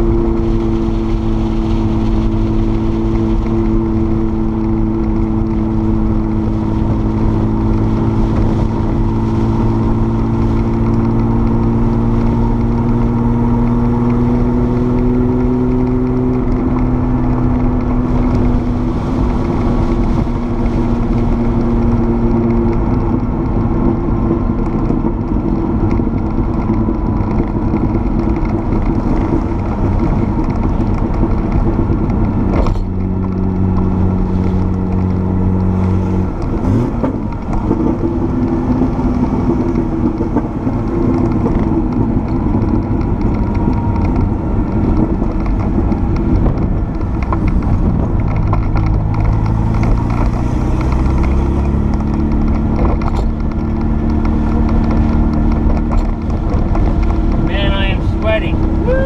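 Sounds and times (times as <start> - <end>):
car engine revving: 0.0 - 59.0
road noise: 0.0 - 59.0.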